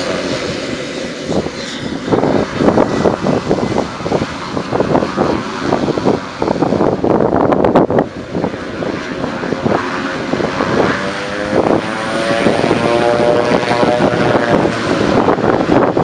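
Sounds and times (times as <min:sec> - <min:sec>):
engine whine: 0:00.0 - 0:16.0
turboprop engine drone: 0:00.0 - 0:16.0.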